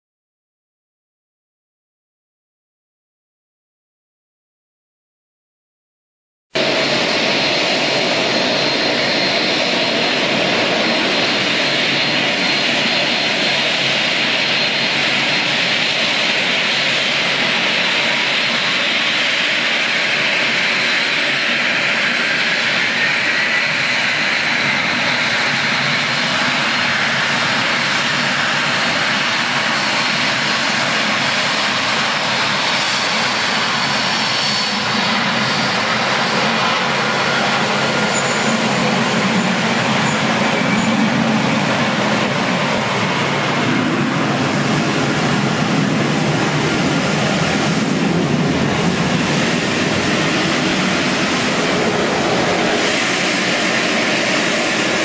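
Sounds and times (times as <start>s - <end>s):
broad rushing noise: 6.6s - 55.0s
jet engines whining: 6.6s - 55.0s.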